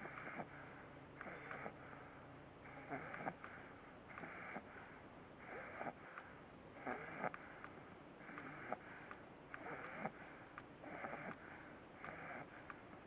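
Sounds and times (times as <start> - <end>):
dog snoring: 0.0 - 13.0.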